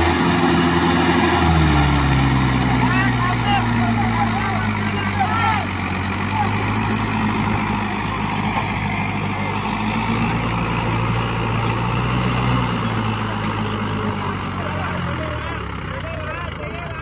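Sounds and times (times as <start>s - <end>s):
tractor diesel engine straining: 0.0s - 17.0s.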